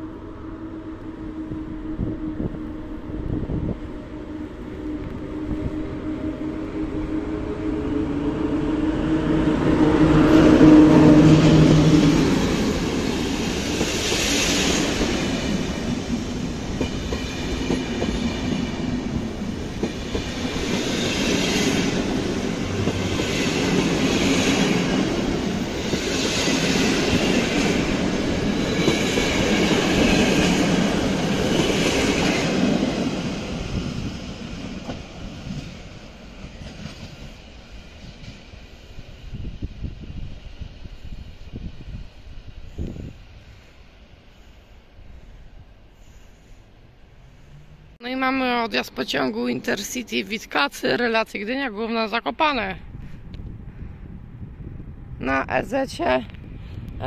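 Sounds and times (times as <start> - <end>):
electric locomotive motor hum: 0.0 - 48.0.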